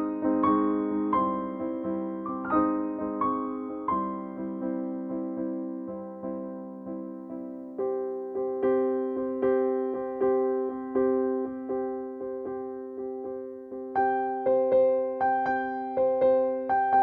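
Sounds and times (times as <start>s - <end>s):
calm piano melody: 0.0s - 17.0s.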